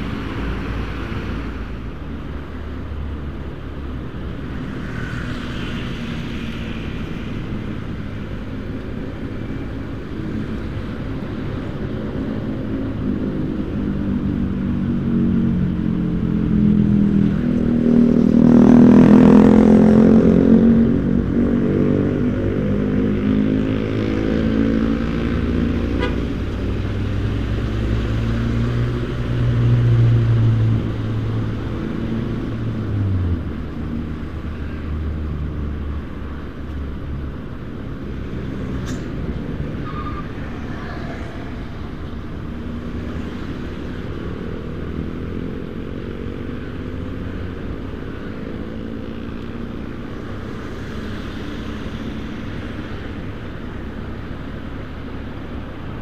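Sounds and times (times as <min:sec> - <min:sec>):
traffic noise: 0:00.0 - 0:56.0.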